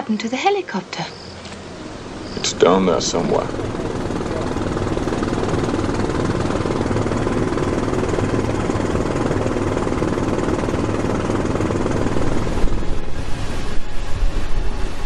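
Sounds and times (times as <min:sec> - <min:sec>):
helicopter rotor chopping: 0:01.3 - 0:15.0.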